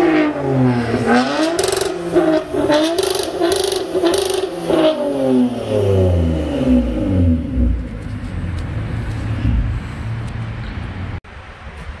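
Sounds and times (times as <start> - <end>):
loud car engine revving and idling: 0.0 - 10.6.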